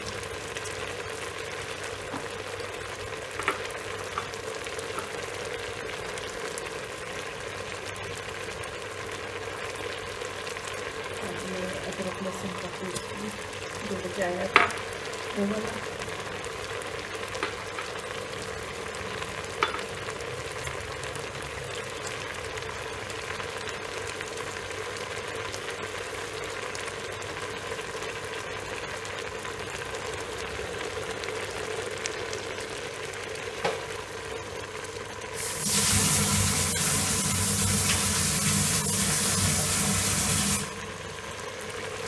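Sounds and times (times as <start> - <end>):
stew bubbling and sizzling: 0.0 - 42.0.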